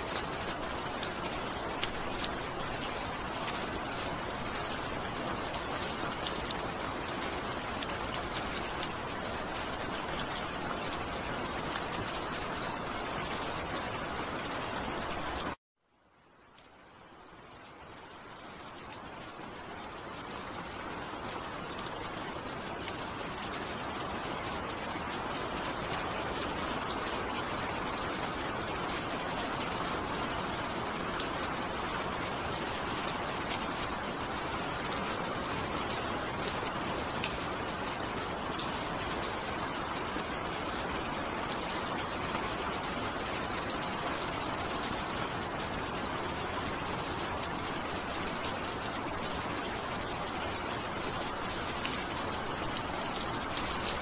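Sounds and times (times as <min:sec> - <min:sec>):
raindrop ticks: 0:00.0 - 0:54.0
steady rain falling: 0:00.0 - 0:54.0.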